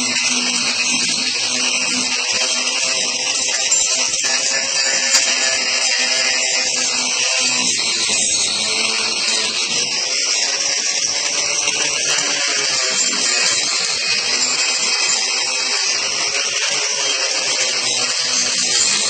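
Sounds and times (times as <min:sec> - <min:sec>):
grinder grinding into wood: 0:00.0 - 0:19.0.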